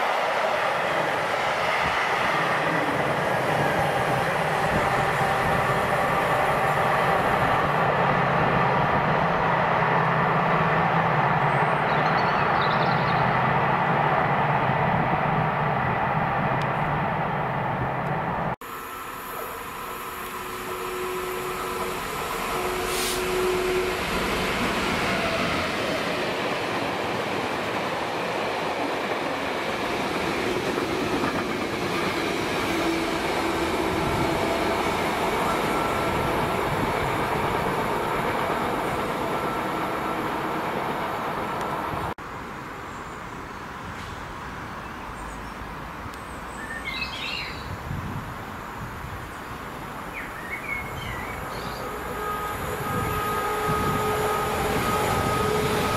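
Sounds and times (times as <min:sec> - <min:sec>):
diesel locomotive engine: 0:00.0 - 0:42.2, 0:47.8 - 0:55.9.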